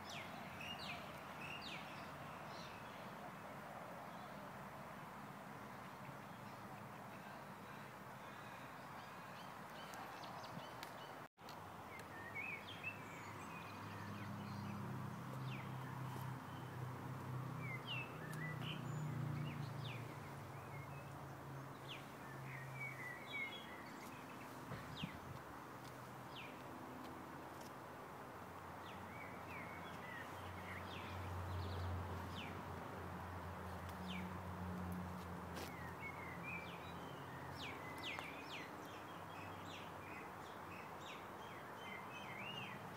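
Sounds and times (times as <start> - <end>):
faint outdoor hiss: 0.0 - 42.9
birds chirping: 5.6 - 27.7, 28.6 - 34.4, 35.5 - 42.9.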